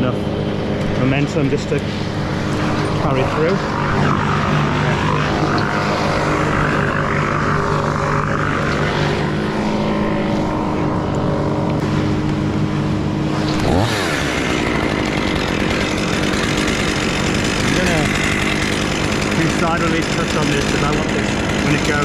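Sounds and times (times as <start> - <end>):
chainsaw cutting: 0.0 - 22.0.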